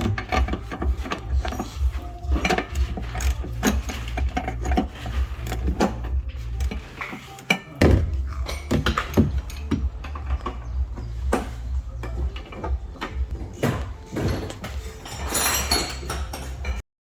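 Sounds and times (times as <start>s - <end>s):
metal tools clinking and clattering: 0.0s - 16.8s.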